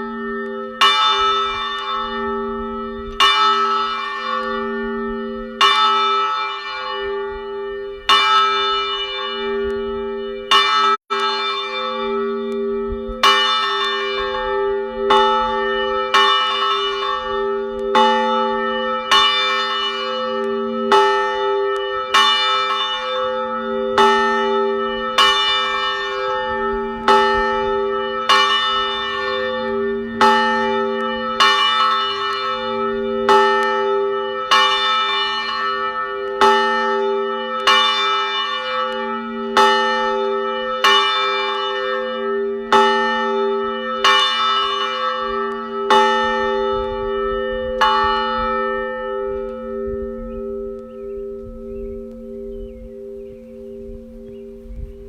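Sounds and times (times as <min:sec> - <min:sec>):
church bell ringing: 0:00.0 - 0:55.0.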